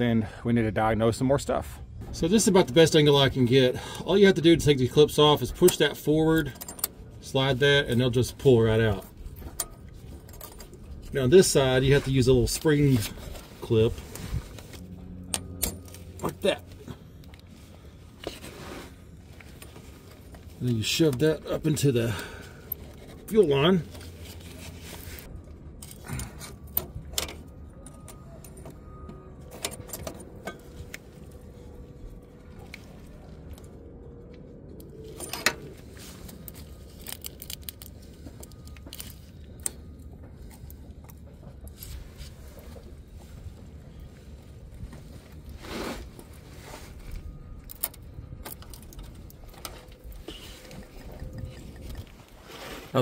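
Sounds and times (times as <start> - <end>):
low background rumble: 0.0 - 53.0.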